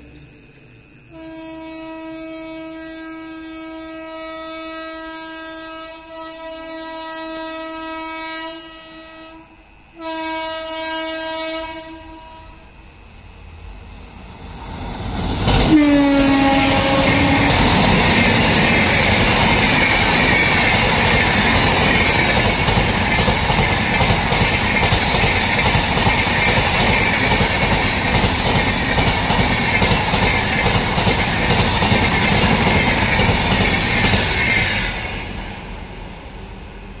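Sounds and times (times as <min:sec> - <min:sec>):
train coaches passing at speed: 0:00.0 - 0:37.0.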